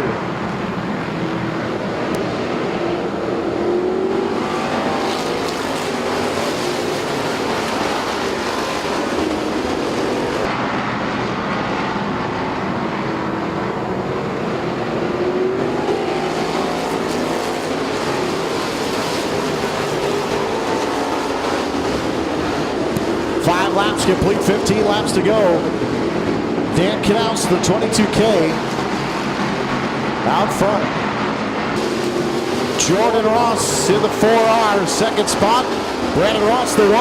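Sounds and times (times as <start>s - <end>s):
race car engines passing: 0.0s - 37.0s.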